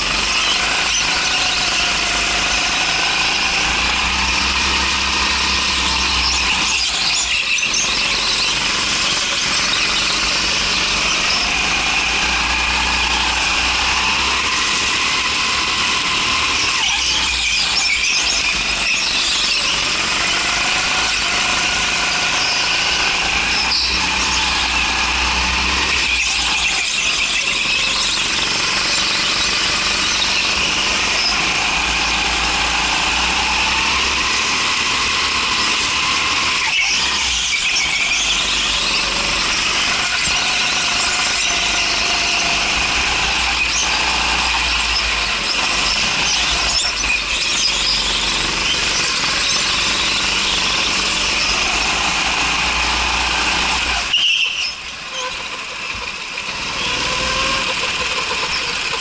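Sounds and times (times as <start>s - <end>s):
go-kart engine running: 0.0s - 59.0s
high-pitched squeal and whine: 0.0s - 59.0s.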